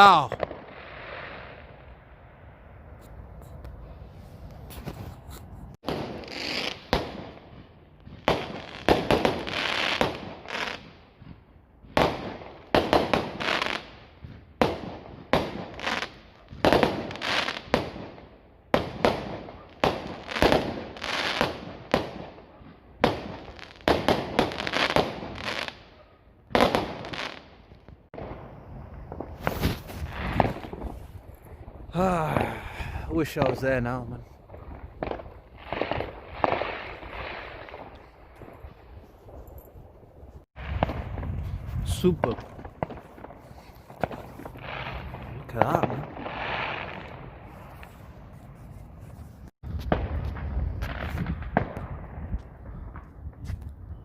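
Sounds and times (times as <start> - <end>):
fireworks bangs: 0.0 - 53.5.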